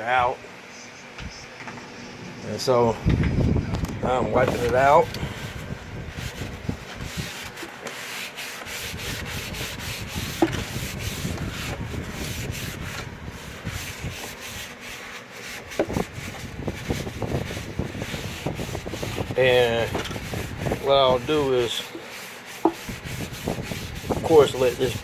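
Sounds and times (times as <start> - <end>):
cleaning wipe rubbing: 4.3 - 25.0.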